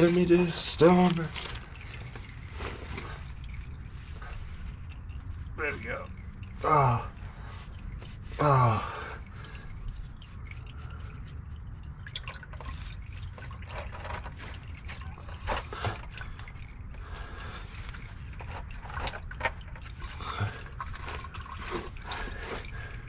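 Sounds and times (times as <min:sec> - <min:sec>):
oil dripping into a pan: 0:00.2 - 0:23.0.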